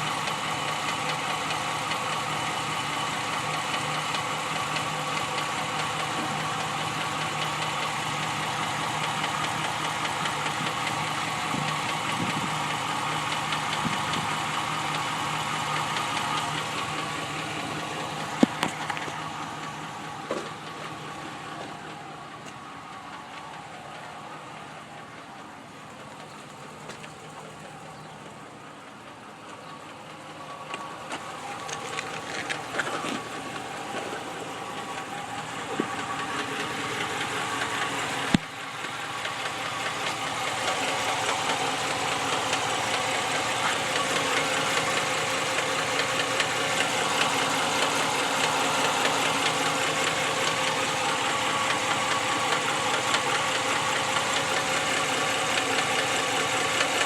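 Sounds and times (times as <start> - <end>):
engine idling with knock: 0.0 - 57.0.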